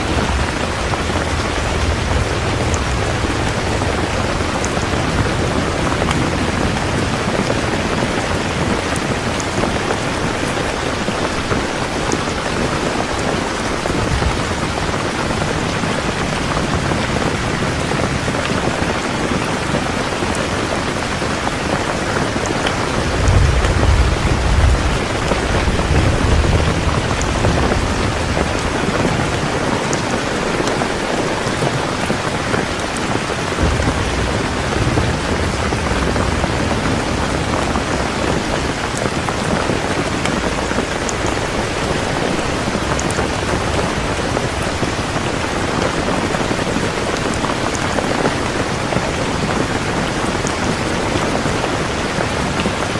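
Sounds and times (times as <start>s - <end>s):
rolling thunder: 0.0s - 52.8s
heavy rain: 0.0s - 52.9s.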